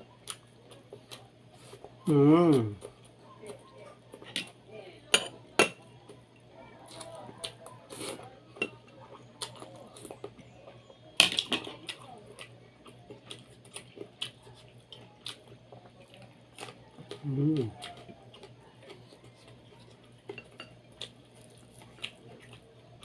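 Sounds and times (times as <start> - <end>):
person chewing food: 0.0 - 4.6, 6.1 - 23.0.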